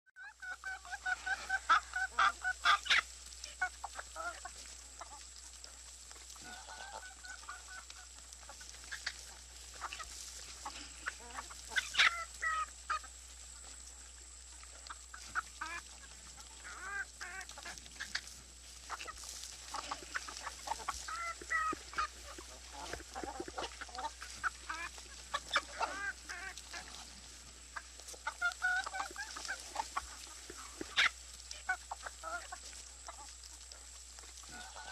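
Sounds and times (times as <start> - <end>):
poultry calling: 0.2 - 34.9.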